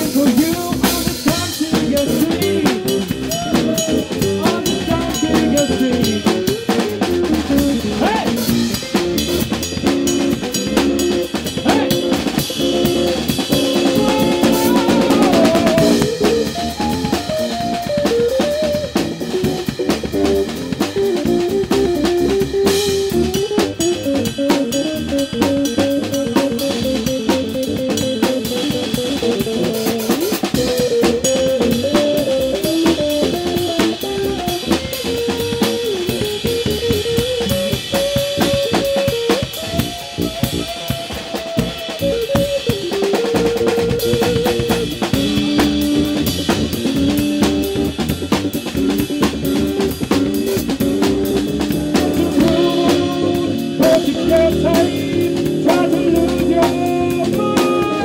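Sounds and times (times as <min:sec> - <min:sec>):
drum kit: 0:00.0 - 0:58.0
electric guitar melody: 0:00.0 - 0:58.0.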